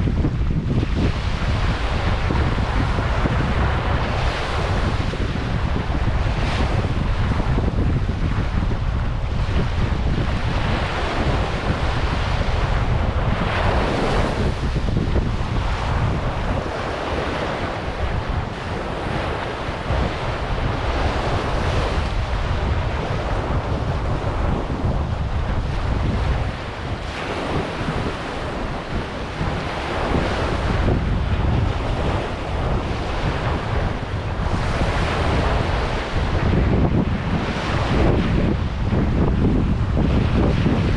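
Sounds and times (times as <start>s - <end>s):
ocean waves breaking on beach: 0.0s - 40.9s
wind rumbling on microphone: 0.0s - 40.9s.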